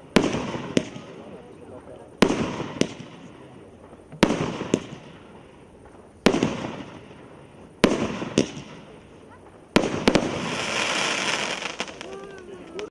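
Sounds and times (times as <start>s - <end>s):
firework bangs with echo: 0.0s - 1.4s, 2.2s - 12.9s.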